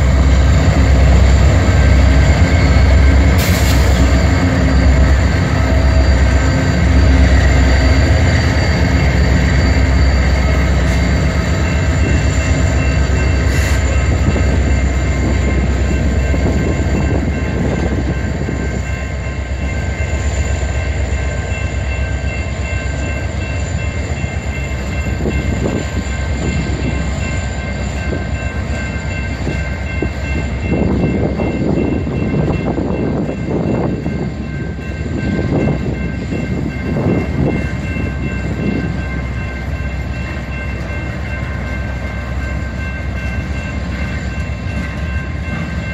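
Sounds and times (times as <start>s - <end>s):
freight train rumbling: 0.0s - 45.9s
train rattling: 0.0s - 45.9s.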